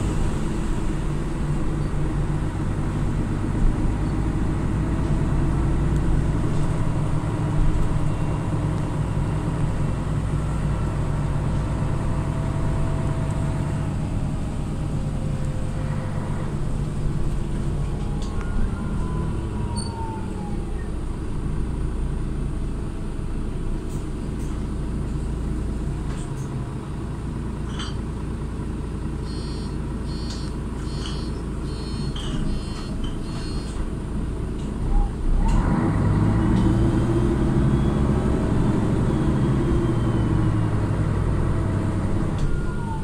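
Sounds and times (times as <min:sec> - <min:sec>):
diesel bus engine running: 0:00.0 - 0:43.0.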